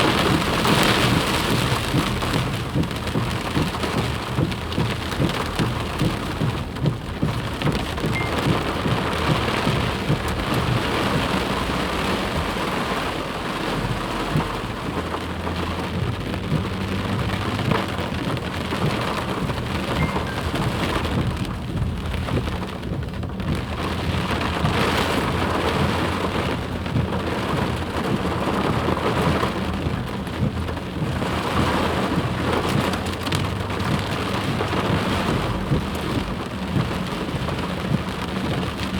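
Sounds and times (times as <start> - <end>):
flood water rushing: 0.0 - 38.9.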